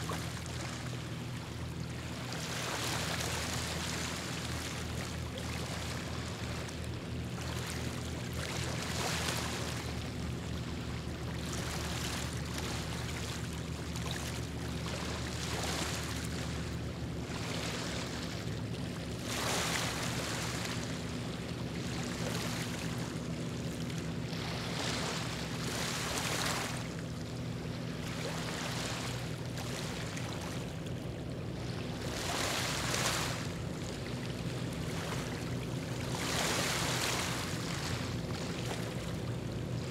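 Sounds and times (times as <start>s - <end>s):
low engine hum: 0.0s - 39.9s
water lapping: 0.0s - 39.9s.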